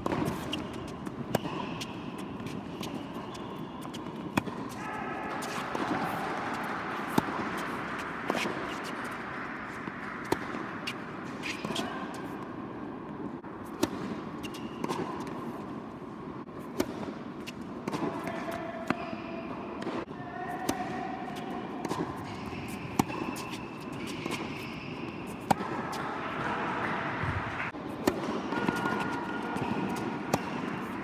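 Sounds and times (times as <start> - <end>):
indoor hall background: 0.0 - 31.0
tennis balls struck and bouncing: 0.0 - 31.0.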